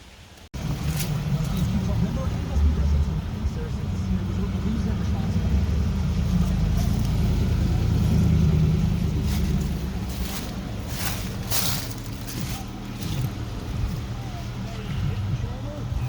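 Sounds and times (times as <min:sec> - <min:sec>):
low motor hum: 0:00.6 - 0:16.0.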